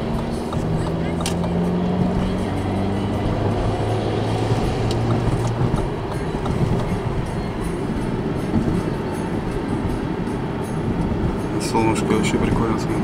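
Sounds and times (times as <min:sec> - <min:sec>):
tyre and road rumble: 0:00.0 - 0:11.4
low engine hum: 0:00.0 - 0:13.0.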